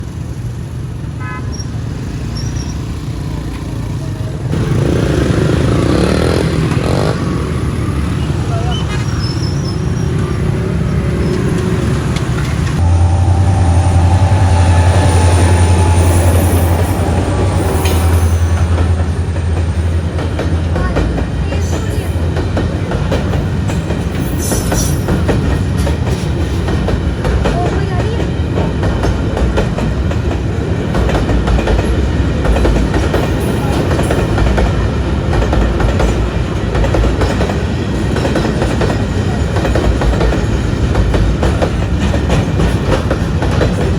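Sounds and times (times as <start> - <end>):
train wheels clattering over rail joints: 2.4 - 12.8, 14.8 - 43.9
train deep drone: 3.5 - 43.9.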